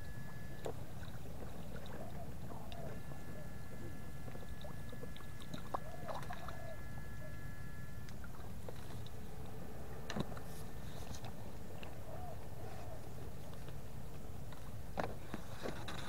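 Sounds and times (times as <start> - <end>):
thin high whine: 0.0 - 13.2
water sloshing and splashing: 0.1 - 7.4, 8.1 - 16.0.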